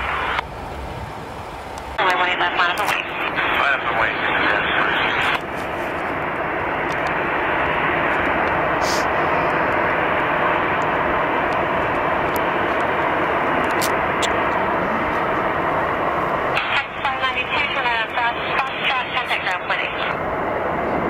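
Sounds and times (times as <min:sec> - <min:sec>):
jet airliner engine roar: 0:00.0 - 0:21.0.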